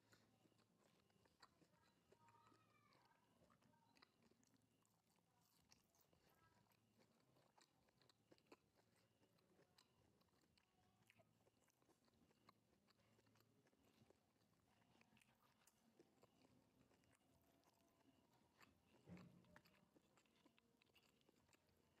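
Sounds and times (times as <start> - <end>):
crunchy chewing with mouth clicks: 0.0 - 22.0.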